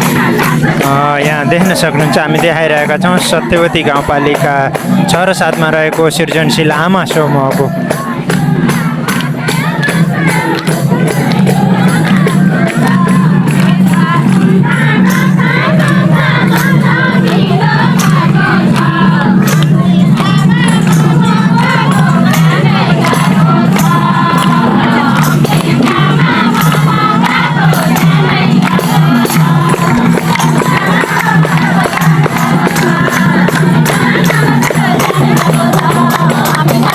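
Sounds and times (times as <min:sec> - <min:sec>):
crowd noise: 0:00.0 - 0:36.9
group of voices singing: 0:00.0 - 0:36.9
steady percussive beat: 0:00.0 - 0:36.9.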